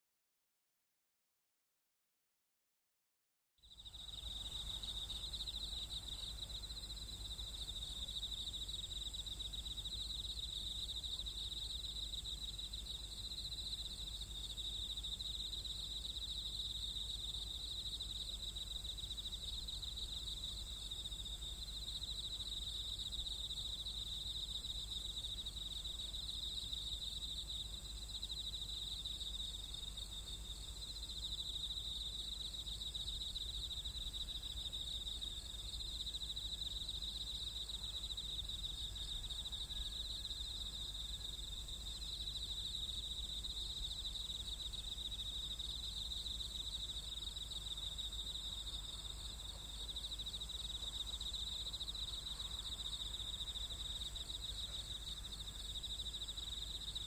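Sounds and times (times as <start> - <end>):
high insect hiss: 3.6 - 57.0
crickets trilling: 3.7 - 57.0.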